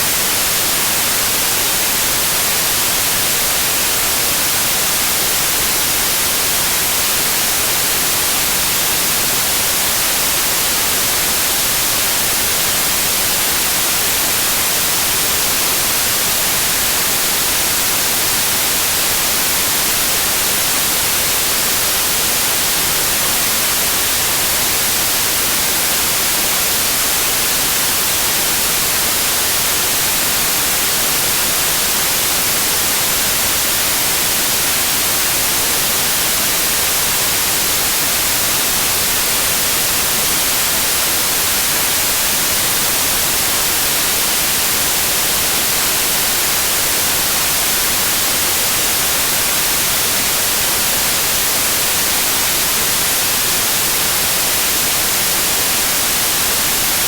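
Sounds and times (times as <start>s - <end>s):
loud white noise hiss: 0.0s - 57.0s.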